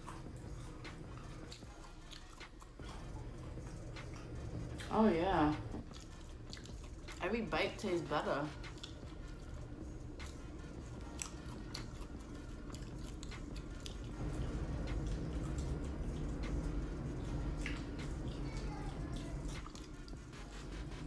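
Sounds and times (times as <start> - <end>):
person chewing crispy food: 0.0 - 4.9, 5.8 - 7.2, 8.6 - 20.3.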